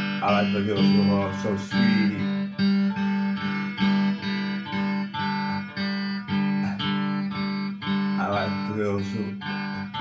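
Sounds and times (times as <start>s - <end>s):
electric guitar strumming chord: 0.0s - 10.0s.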